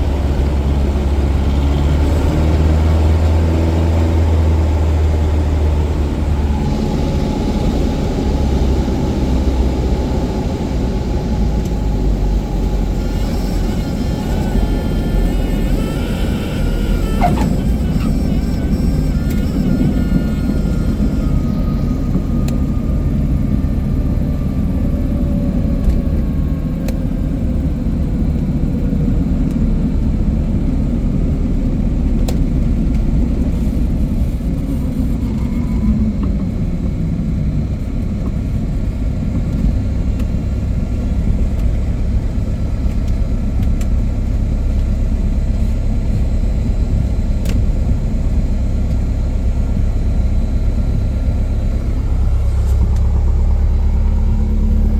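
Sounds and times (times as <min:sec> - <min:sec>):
airplane engine and propeller drone: 0:00.0 - 0:54.9.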